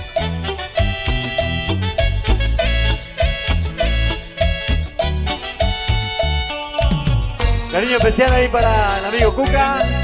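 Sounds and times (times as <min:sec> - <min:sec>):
live band playing latin dance music: 0:00.0 - 0:10.0.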